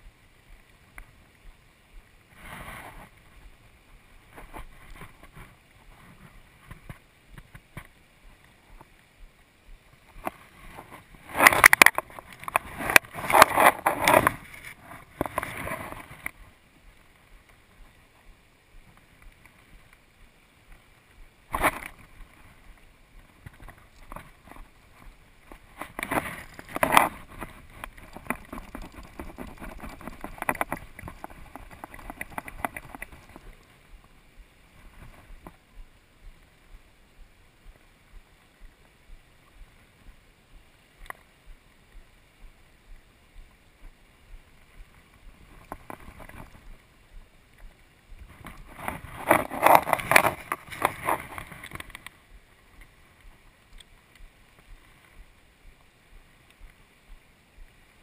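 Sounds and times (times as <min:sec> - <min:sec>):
faint regular ticks: 0:00.5 - 0:58.0.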